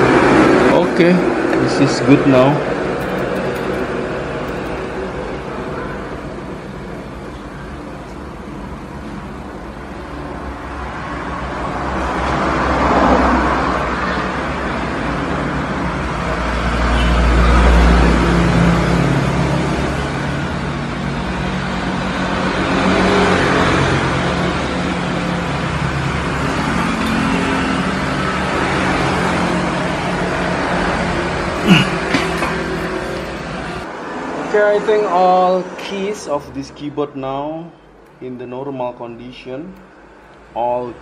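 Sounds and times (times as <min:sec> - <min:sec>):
vehicles passing: 0:00.0 - 0:38.3.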